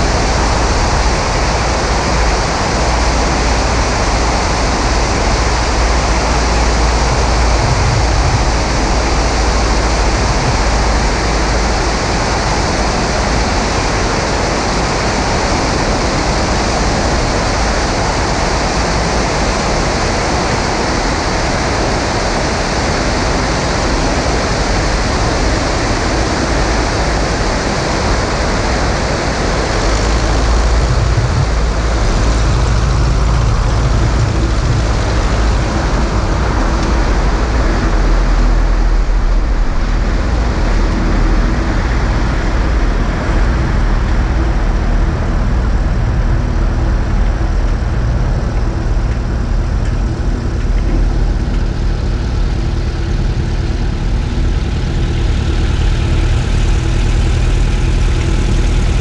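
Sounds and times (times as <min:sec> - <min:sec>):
slipstream wind rushing: 0:00.0 - 0:59.0.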